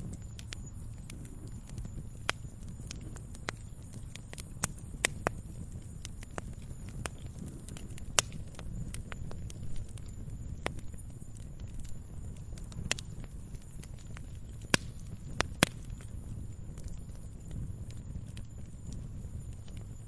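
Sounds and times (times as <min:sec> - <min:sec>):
burning wood popping: 0:00.0 - 0:20.0
low rumble of flames: 0:00.0 - 0:20.0.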